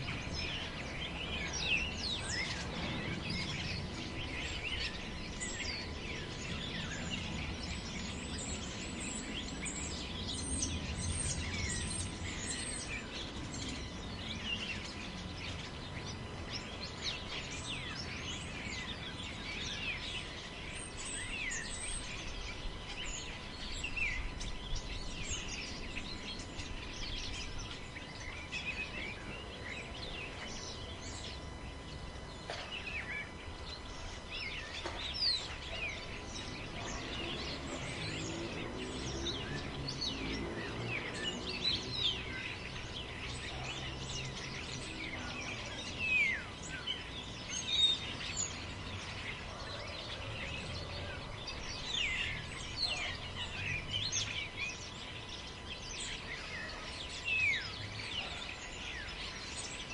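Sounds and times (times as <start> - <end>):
small birds chirping: 0.0 - 59.9
wind in forest: 0.0 - 59.9.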